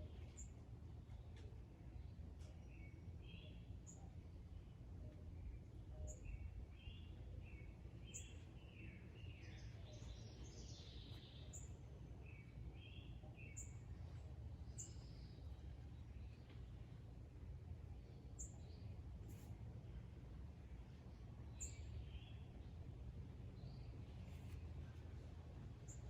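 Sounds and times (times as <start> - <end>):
low outdoor rumble: 0.0 - 26.0
songbirds chirping: 0.0 - 26.0.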